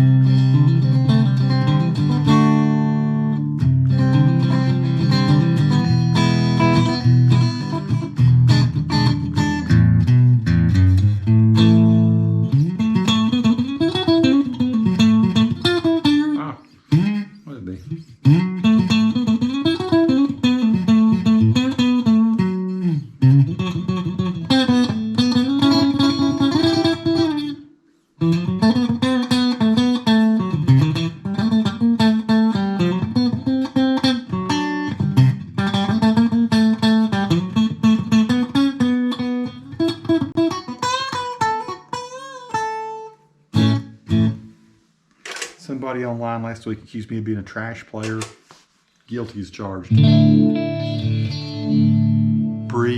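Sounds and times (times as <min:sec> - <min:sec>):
electric guitar picked notes: 0:00.0 - 0:44.6, 0:49.9 - 0:52.9.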